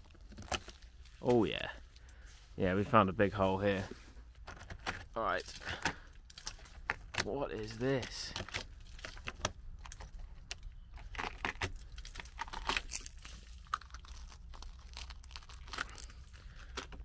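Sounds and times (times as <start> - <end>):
rusted metal crackling and crunching: 0.0 - 17.0.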